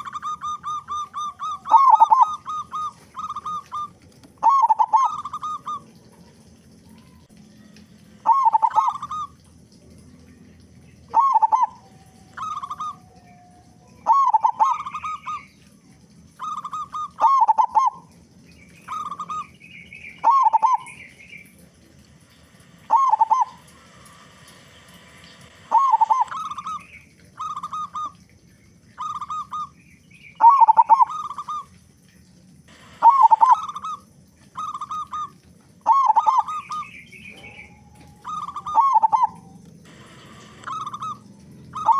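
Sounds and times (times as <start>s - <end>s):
bird twittering: 0.0s - 7.2s, 8.2s - 9.5s, 10.2s - 21.6s, 22.4s - 31.8s, 32.7s - 41.9s
dove cooing: 0.0s - 41.9s.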